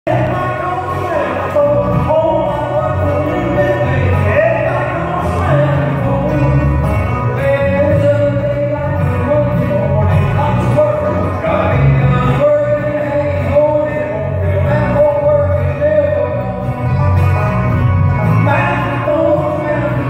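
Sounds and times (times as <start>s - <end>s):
electric bass: 0.0s - 20.0s
acoustic guitar: 0.1s - 20.0s
banjo: 0.1s - 20.0s
person singing melody: 0.1s - 20.0s.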